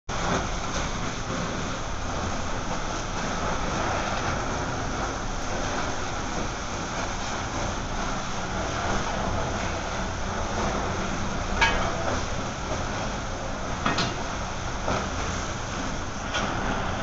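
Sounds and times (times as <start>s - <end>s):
water flashing to steam: 0.1s - 17.0s
water hose hissing onto hot slag: 0.1s - 17.0s.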